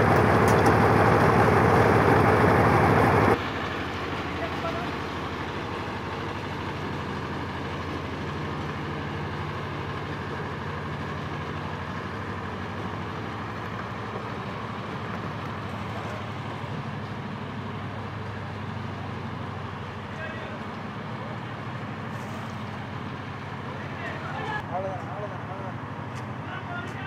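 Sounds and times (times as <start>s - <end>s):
engine droning with hiss: 0.0s - 27.0s.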